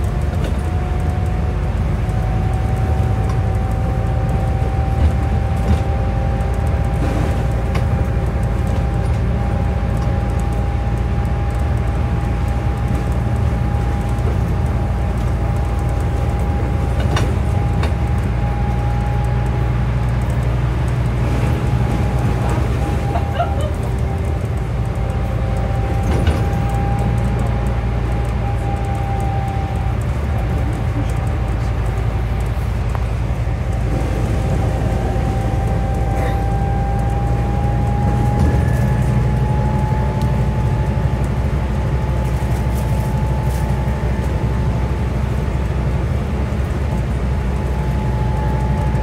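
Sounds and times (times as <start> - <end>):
bus diesel engine drone and whine: 0.0 - 49.0.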